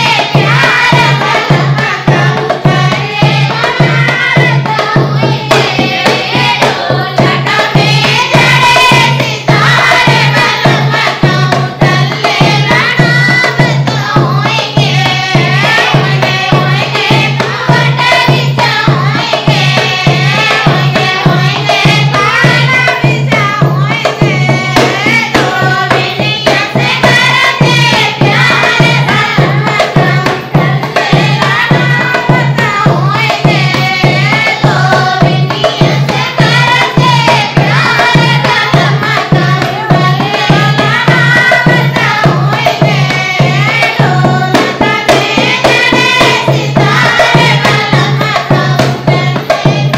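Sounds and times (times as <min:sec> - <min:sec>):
steady drum beat: 0:00.0 - 0:49.9.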